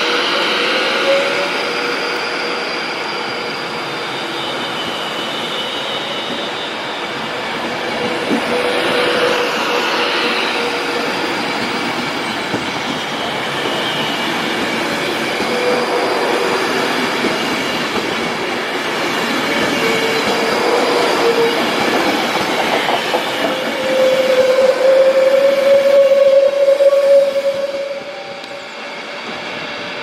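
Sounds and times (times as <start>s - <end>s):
train rumbling along rails: 0.0s - 30.0s.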